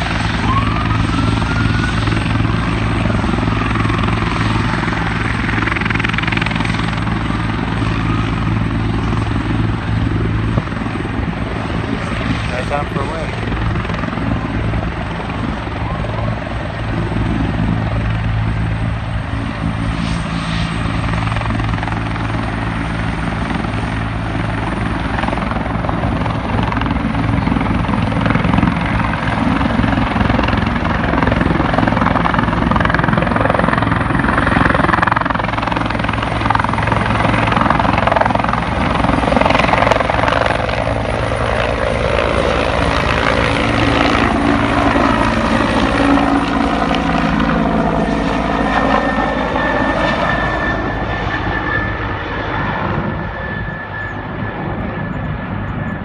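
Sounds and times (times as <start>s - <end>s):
helicopter rotor and turbine: 0.0s - 56.0s.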